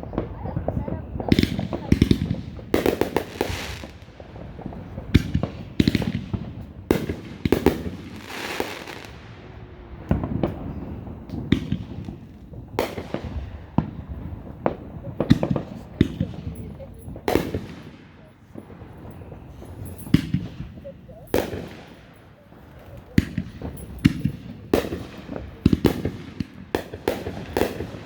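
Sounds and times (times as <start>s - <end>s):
fireworks crackling hiss: 0.0s - 28.0s
firework shells bursting: 1.3s - 28.0s.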